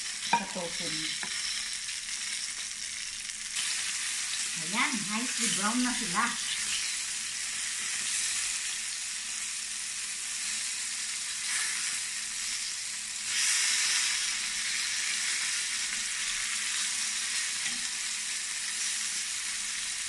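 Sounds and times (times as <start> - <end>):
tofu sizzling in hot oil: 0.0 - 20.0.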